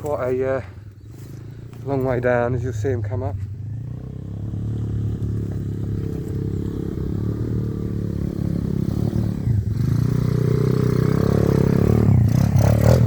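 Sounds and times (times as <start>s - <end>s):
pit bike engine under load: 0.0s - 13.0s.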